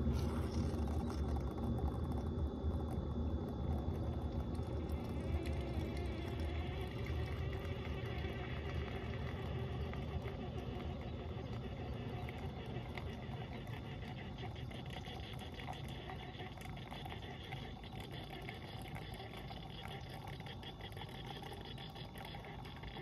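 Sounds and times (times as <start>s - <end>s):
coffee maker humming and hissing: 0.0s - 23.0s
coffee trickling into glass mug: 0.0s - 23.0s.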